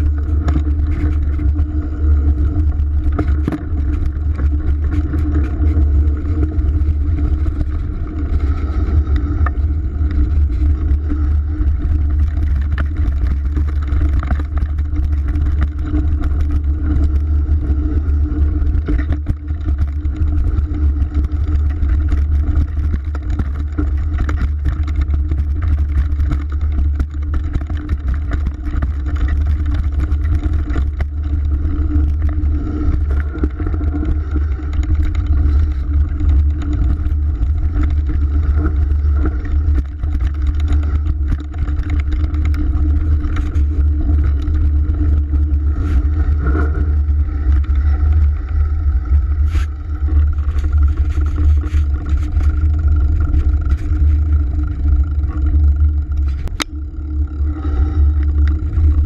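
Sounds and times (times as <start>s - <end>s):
bike rattles and knocks: 0.0s - 59.0s
wind and tyres rumbling: 0.0s - 59.0s.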